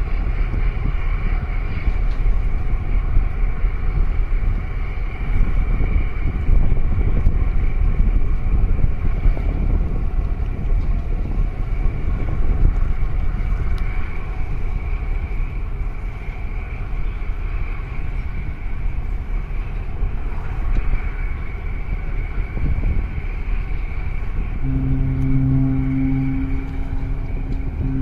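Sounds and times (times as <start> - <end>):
deep ship's horn blast: 0.0 - 18.2, 22.2 - 28.0
small boat engine rumble: 0.0 - 28.0
water noise: 0.0 - 28.0
wind: 0.0 - 28.0.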